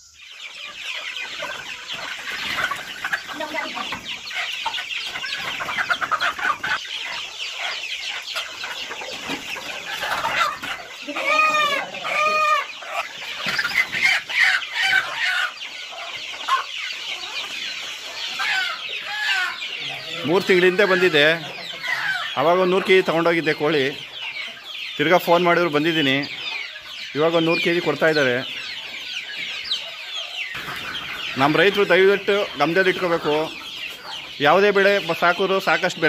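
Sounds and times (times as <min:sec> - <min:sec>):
chickens clucking and squawking: 0:00.0 - 0:36.0
loud drawn-out chicken calls: 0:00.0 - 0:36.0.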